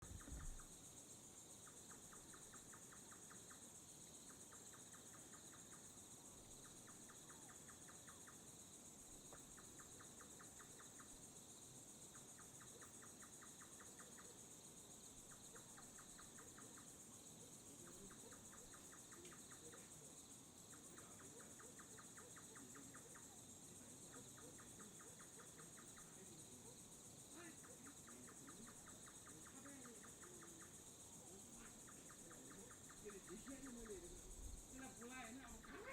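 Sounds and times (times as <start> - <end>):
crickets shrilling: 0.0 - 35.9
insect pulsing trill: 0.0 - 35.9.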